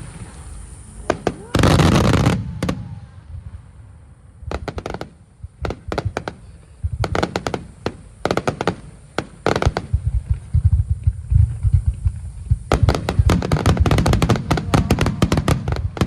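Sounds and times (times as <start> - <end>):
firework pops and crackles: 0.0 - 3.1, 4.5 - 16.0
firework burst: 0.0 - 16.0.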